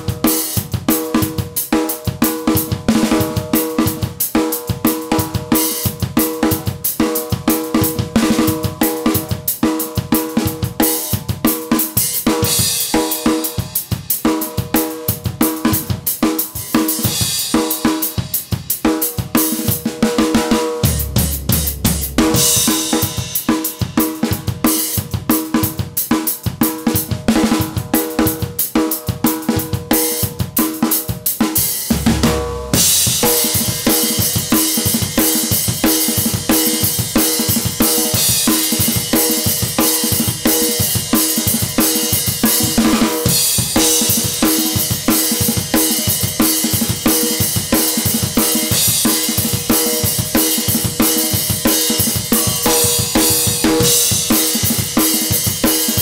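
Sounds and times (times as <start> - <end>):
drum kit rock beat: 0.0 - 56.0.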